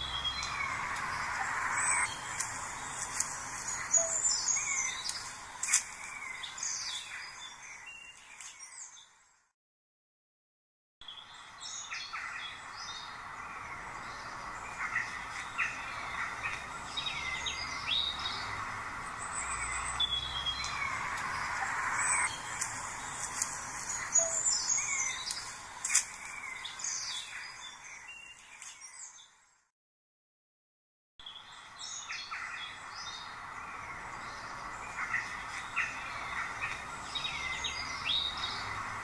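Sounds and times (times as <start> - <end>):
songbirds singing and chirping: 0.0 - 9.5, 11.0 - 29.7, 31.2 - 39.0.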